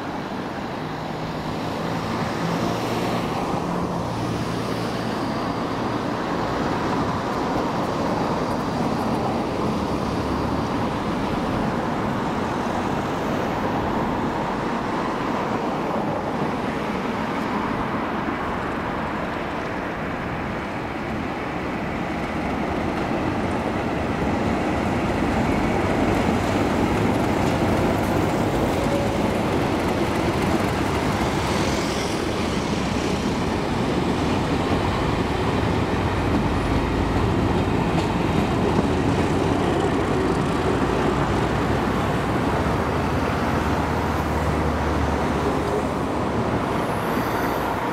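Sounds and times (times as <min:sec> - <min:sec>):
diesel locomotive passing: 0:00.0 - 0:47.9
train wheels rolling on rails: 0:01.3 - 0:47.9.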